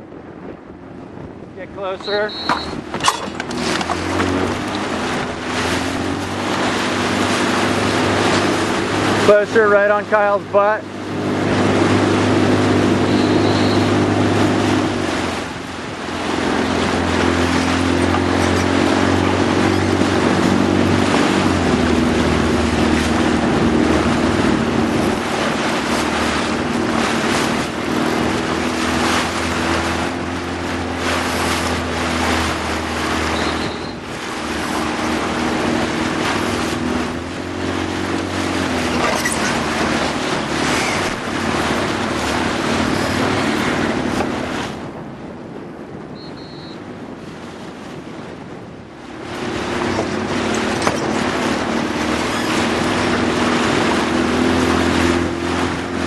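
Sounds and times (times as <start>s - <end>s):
motorboat engine running: 0.0s - 56.0s
water noise: 0.0s - 56.0s
wind: 0.0s - 56.0s.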